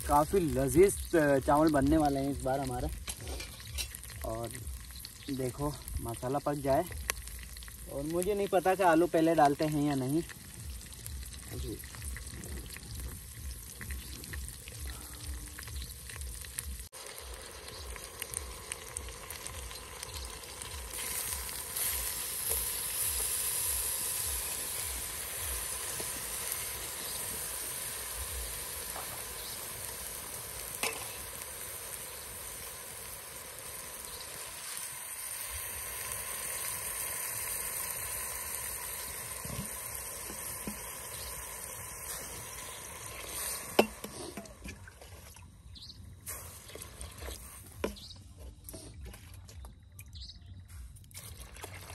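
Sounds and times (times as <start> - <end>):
onions frying in oil: 0.0 - 44.8, 45.6 - 48.2.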